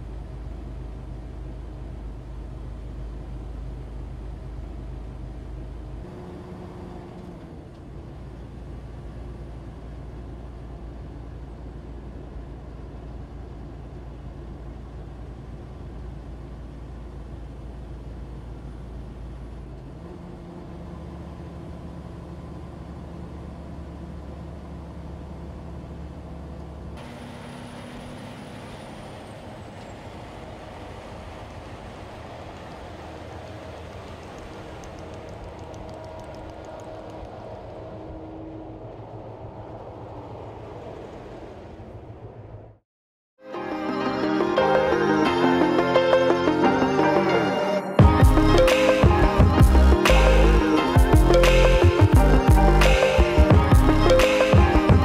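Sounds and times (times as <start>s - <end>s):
diesel engine drone: 0.0s - 42.8s, 43.6s - 55.0s.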